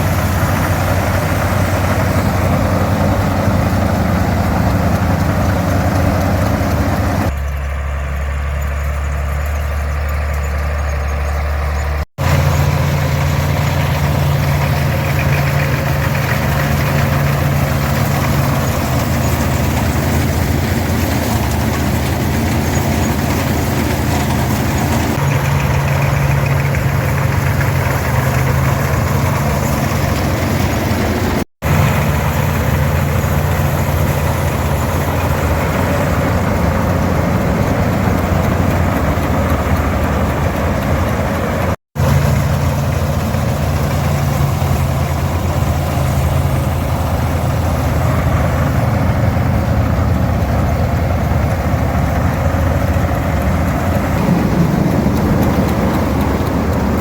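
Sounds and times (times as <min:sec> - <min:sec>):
combine threshing machinery: 0:00.0 - 0:57.0
diesel tractor running: 0:00.0 - 0:57.0.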